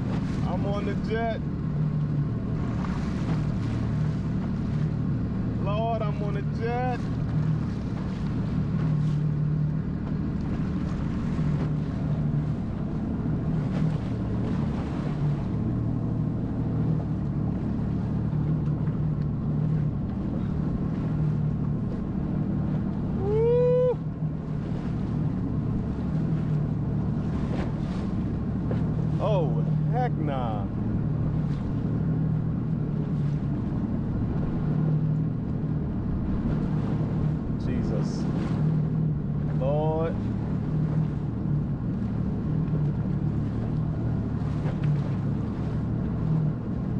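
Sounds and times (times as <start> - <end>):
jet ski engine running: 0.0 - 46.9
wind and water noise: 0.0 - 46.9.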